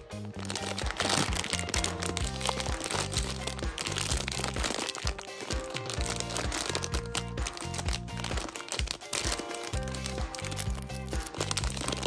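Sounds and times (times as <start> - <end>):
background music with bass: 0.0 - 12.0
plastic candy bag crinkling: 0.0 - 12.0.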